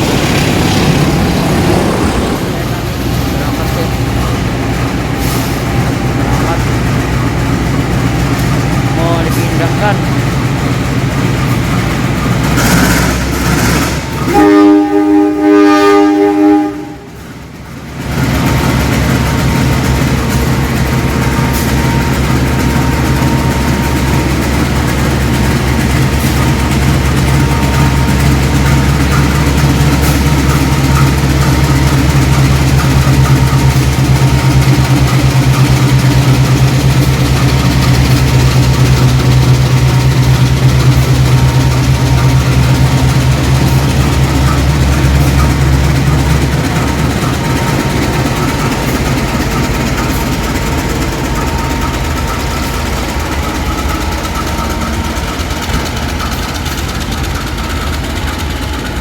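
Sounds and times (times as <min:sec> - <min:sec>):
diesel locomotive engine running: 0:00.0 - 0:59.0.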